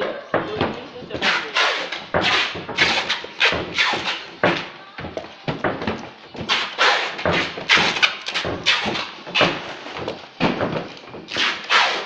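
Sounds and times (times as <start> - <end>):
boxes thudding and scraping: 0.0 - 12.0.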